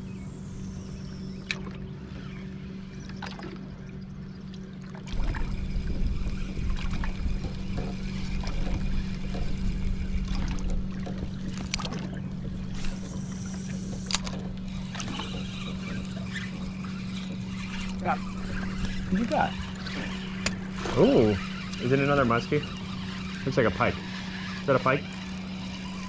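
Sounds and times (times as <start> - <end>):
low rumble: 0.0 - 23.3
boat motor running: 0.0 - 26.0.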